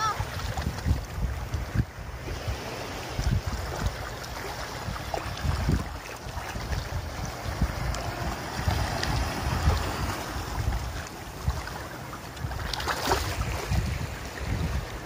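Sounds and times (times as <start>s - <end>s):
shallow seawater washing: 0.0s - 15.0s
water splashes: 0.0s - 15.0s
wind buffeting microphone: 0.0s - 15.0s.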